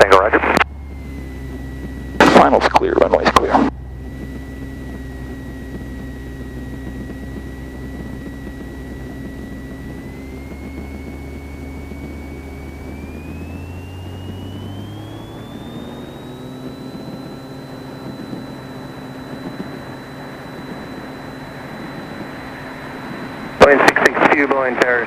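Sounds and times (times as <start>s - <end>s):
airplane engine and propeller: 0.0s - 25.0s
thin high whine: 0.0s - 25.0s.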